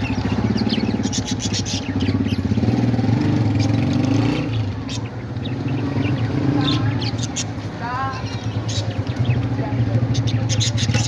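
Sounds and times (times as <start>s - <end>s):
high bird chirps: 0.0s - 11.0s.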